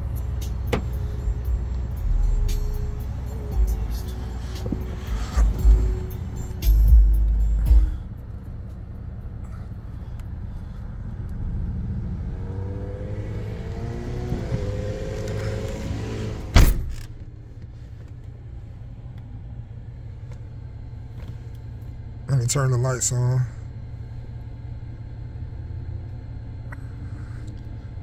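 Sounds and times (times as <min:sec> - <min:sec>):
car engine idling: 0:00.0 - 0:12.3, 0:13.1 - 0:28.0.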